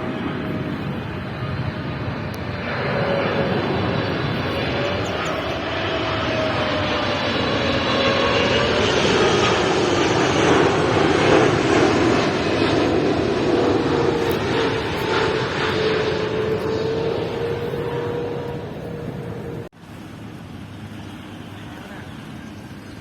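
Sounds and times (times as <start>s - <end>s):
jet airliner passing overhead: 0.0s - 23.0s.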